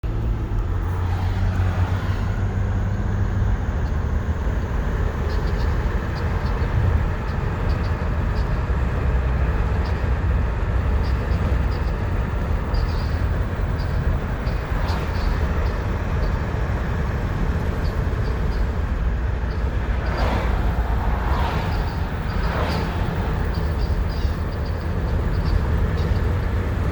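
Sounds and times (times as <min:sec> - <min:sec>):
car engine low rumble: 0:00.0 - 0:26.9.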